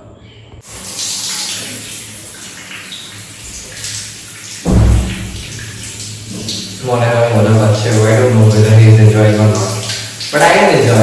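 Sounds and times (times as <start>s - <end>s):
shower water spraying: 0.6s - 11.0s.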